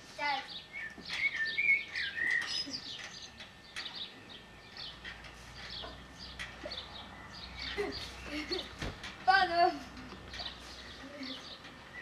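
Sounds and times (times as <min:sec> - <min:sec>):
small birds chirping: 0:00.2 - 0:08.8, 0:09.5 - 0:12.0.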